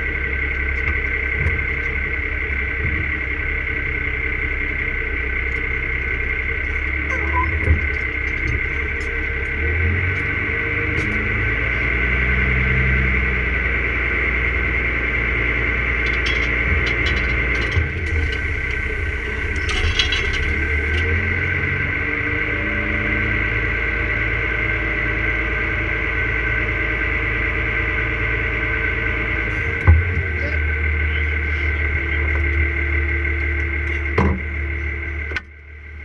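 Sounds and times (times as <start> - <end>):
high whine: 0.0 - 36.0
tractor engine running: 0.0 - 36.0.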